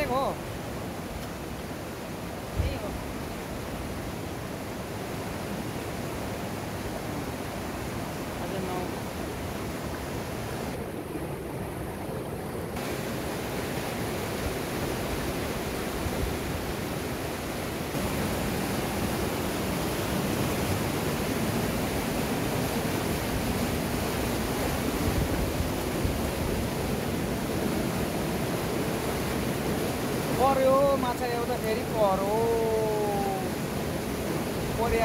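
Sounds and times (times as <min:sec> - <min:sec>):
river rushing over rapids: 0:00.0 - 0:35.0.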